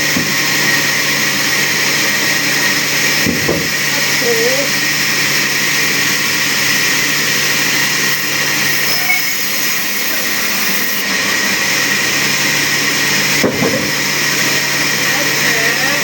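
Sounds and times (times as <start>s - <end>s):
woodworking machine whirring: 0.0s - 16.0s.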